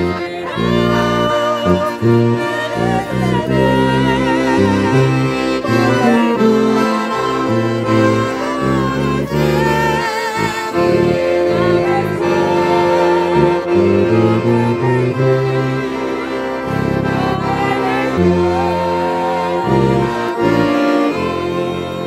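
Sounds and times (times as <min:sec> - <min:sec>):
woman singing with vibrato: 0:00.0 - 0:15.8, 0:16.7 - 0:22.0
accordion playing chords and melody: 0:00.0 - 0:22.0.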